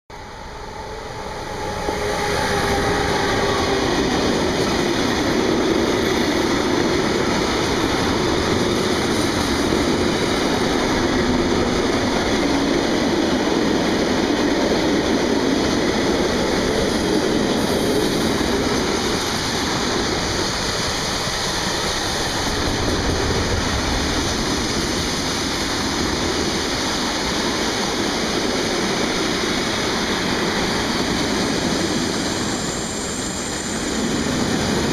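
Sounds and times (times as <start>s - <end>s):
freight train rumbling past: 0.1s - 34.9s.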